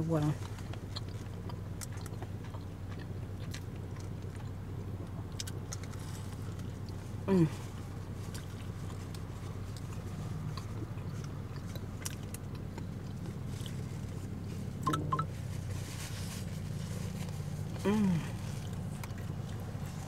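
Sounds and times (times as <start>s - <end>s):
close chewing with wet smacks: 0.0s - 15.8s, 16.5s - 20.0s
car engine and heater hum: 0.0s - 20.0s.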